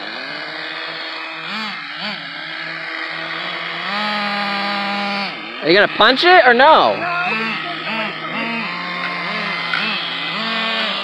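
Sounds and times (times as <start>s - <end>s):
small model car engines revving: 0.0s - 11.0s.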